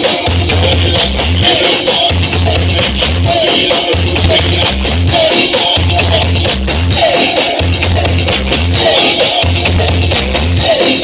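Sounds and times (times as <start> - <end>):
remix music with heavy bass: 0.0 - 11.0.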